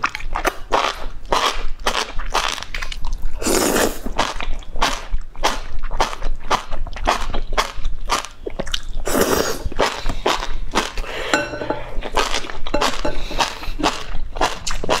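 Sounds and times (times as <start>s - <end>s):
wet chewing and slurping: 0.0s - 11.0s, 13.7s - 15.0s.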